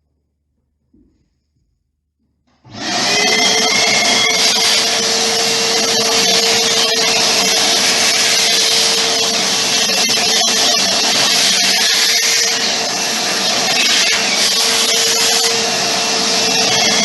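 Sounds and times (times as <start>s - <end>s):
electric power sander running: 2.7s - 17.0s.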